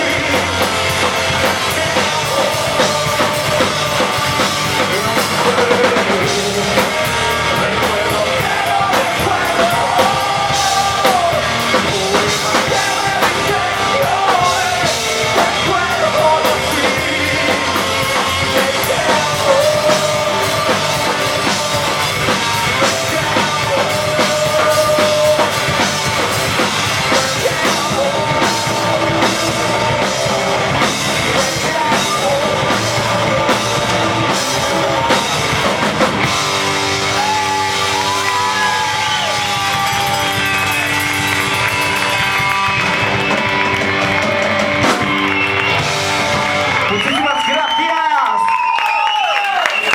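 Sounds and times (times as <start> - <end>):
electric guitars: 0.0 - 48.7
drum kit: 0.0 - 49.9
rock band playing live: 0.0 - 49.9.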